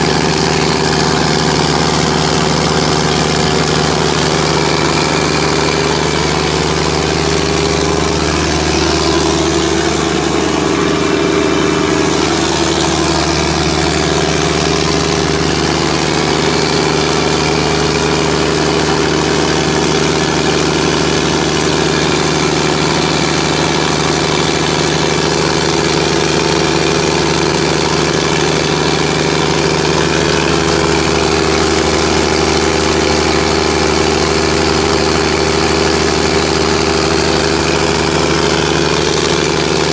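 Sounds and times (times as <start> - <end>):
diesel generator engine drone: 0.0 - 39.9.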